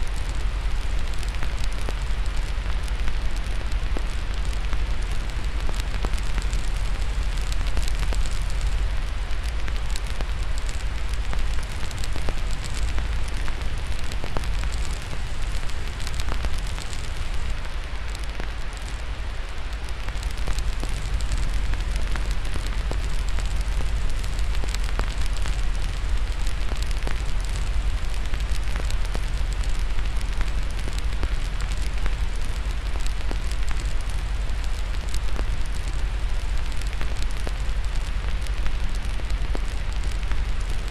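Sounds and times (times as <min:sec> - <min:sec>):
fire crackling and popping: 0:00.0 - 0:40.9
steady hiss: 0:00.0 - 0:40.9.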